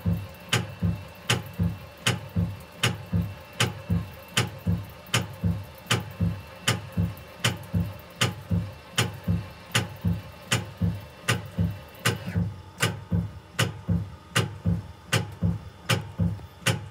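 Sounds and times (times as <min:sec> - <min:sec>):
machine dull knocks: 0:00.0 - 0:16.9
machine sharp clacks: 0:00.1 - 0:16.9.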